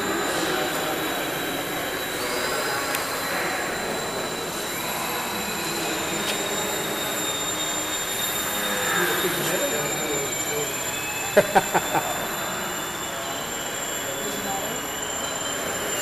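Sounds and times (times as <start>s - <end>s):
electric model aircraft whining: 0.0s - 16.0s.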